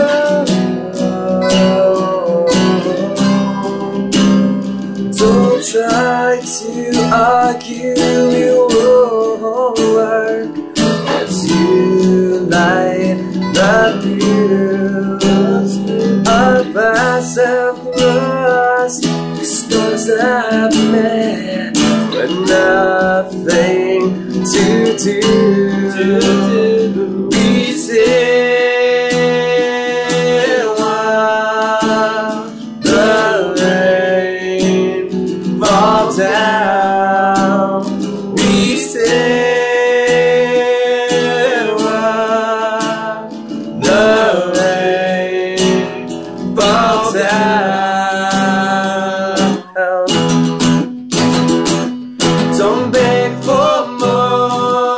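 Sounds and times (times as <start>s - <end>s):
man singing: 0.0s - 50.9s, 51.8s - 54.9s
guitars strumming: 0.0s - 54.9s.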